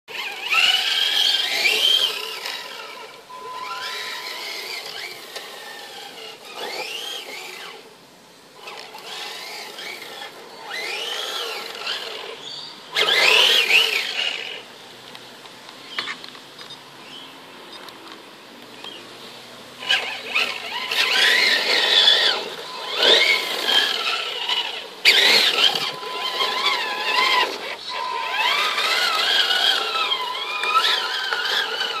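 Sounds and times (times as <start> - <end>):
electric motor whining: 0.1 - 7.9, 8.6 - 14.7, 19.8 - 32.0.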